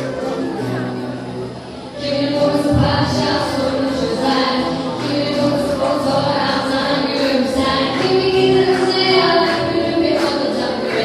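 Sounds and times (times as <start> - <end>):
music: 0.0 - 11.0
young voices singing together: 1.9 - 11.0.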